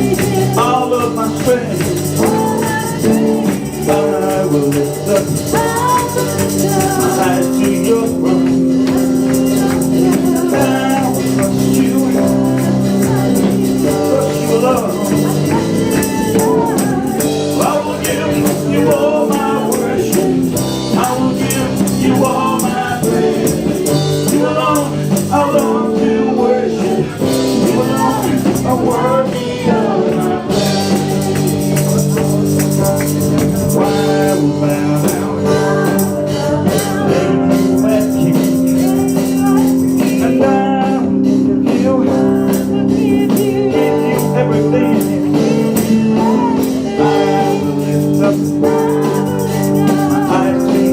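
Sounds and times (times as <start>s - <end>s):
live band playing: 0.0s - 50.9s
percussion: 0.0s - 50.9s
person singing: 0.0s - 50.9s.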